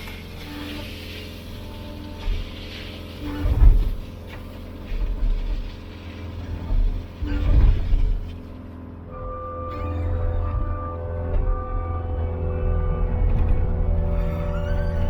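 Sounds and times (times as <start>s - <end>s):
diesel engine running: 0.0s - 15.0s
low rumbling and knocking: 1.7s - 15.0s.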